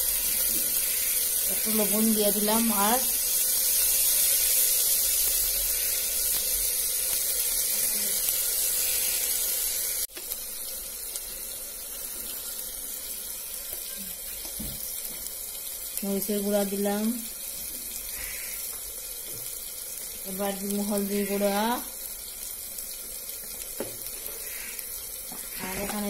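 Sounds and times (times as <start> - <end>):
paste sizzling in hot oil: 0.0 - 26.0.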